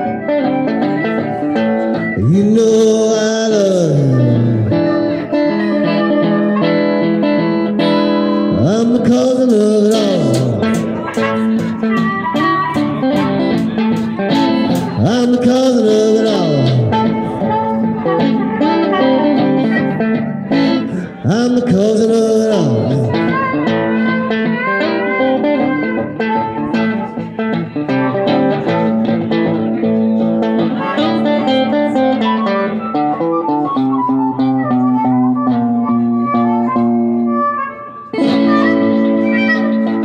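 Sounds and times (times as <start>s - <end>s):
acoustic guitar rhythm: 0.0s - 40.0s
harmonica playing lead: 0.0s - 40.0s.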